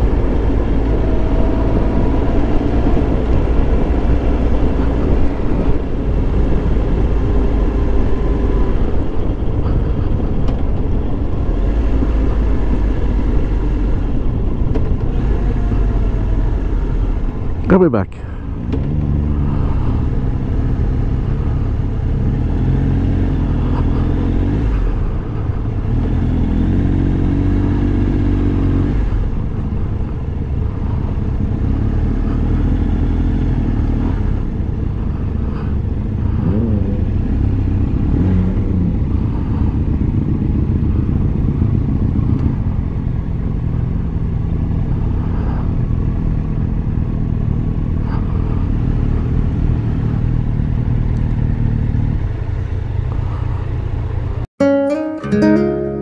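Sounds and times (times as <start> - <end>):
motorcycle engine rumbling: 0.0 - 54.5.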